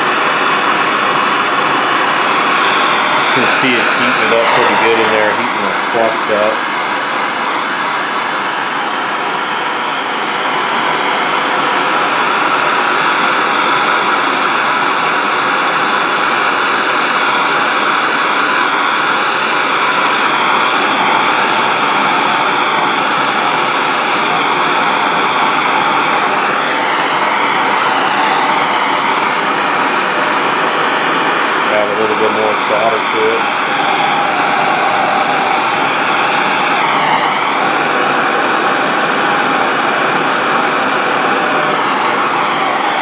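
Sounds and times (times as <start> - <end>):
gas torch hissing: 0.0 - 13.5, 17.0 - 43.0.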